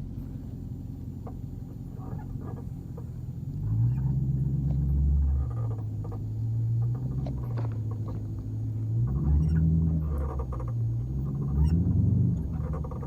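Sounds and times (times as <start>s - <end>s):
car exhaust rumbling: 0.0s - 13.0s
car squeaks and creaks: 2.0s - 13.0s.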